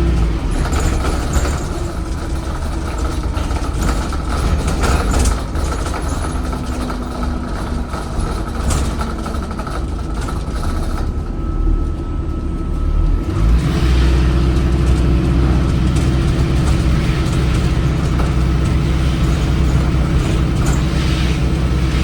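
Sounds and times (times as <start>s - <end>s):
rattles: 0.0s - 11.9s, 14.0s - 22.0s
bus diesel engine rumble: 0.0s - 22.0s.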